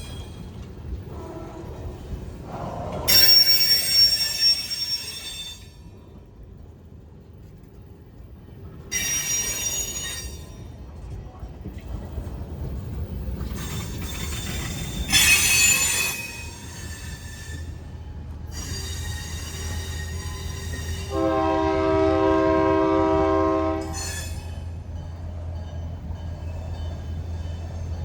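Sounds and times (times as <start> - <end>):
train wheel flange squeal: 0.0 - 6.2, 8.8 - 10.9, 13.0 - 28.0
moving train rumble: 0.0 - 28.0.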